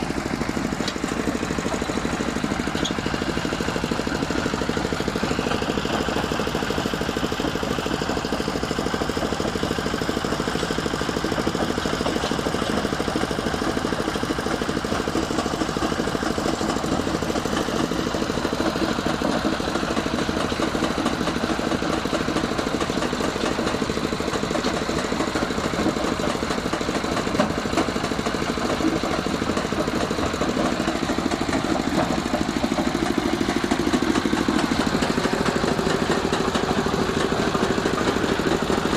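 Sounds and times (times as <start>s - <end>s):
stone crusher: 0.0s - 6.8s, 10.4s - 38.9s
diesel engine running: 0.0s - 38.9s.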